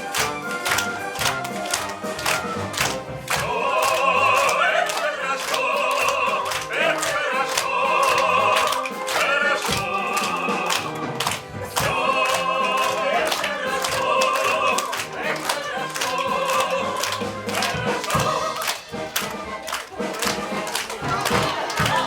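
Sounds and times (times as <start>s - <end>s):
choir singing with accompaniment: 0.0s - 22.0s.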